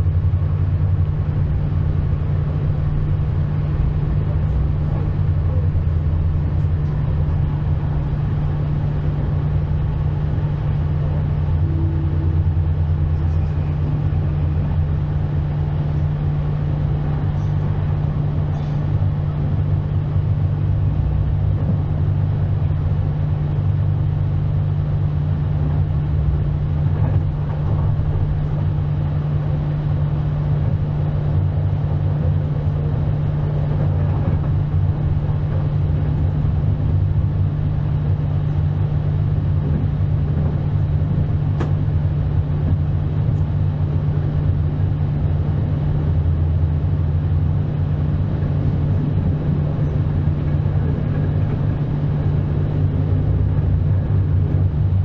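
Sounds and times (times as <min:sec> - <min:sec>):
train low hum: 0:00.0 - 0:55.0
train rumble: 0:00.0 - 0:55.0.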